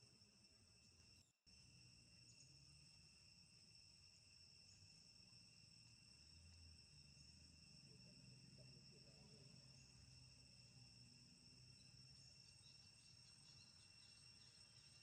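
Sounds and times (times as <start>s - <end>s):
insects chorus ringing: 0.0s - 15.0s.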